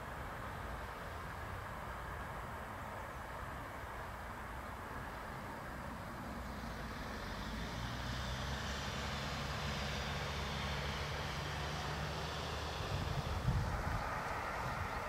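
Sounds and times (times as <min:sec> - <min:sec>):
distant vehicle engine drone: 0:00.0 - 0:15.0.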